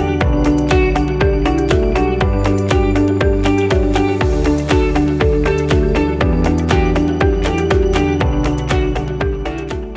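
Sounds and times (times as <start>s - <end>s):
background music with steady beat: 0.0s - 9.9s.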